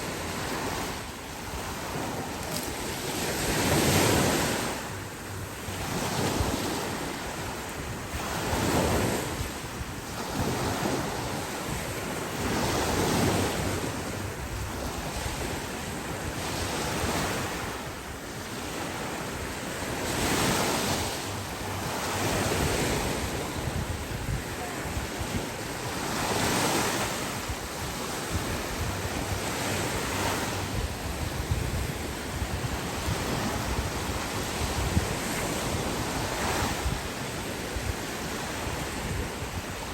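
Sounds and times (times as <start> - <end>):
sea waves breaking on beach: 0.0 - 39.9
wind buffeting microphone: 0.0 - 39.9.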